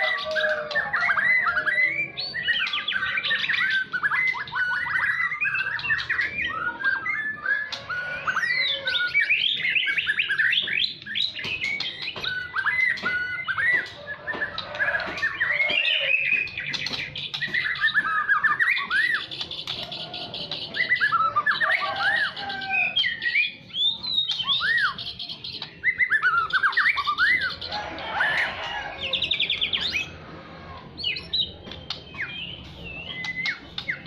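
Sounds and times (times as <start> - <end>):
bird singing whistles and trills: 0.0 - 30.2, 31.0 - 34.0.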